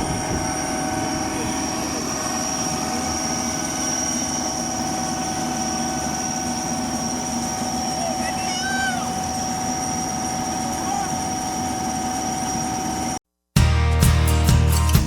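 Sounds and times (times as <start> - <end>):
combine harvester drone: 0.0 - 13.2
high-pitched whine: 0.0 - 13.2.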